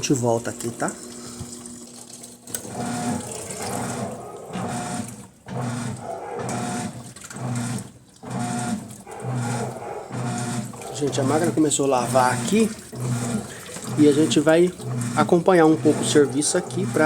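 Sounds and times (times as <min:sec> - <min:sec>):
washing machine motor humming: 0:00.0 - 0:17.0
water sloshing: 0:00.6 - 0:17.0.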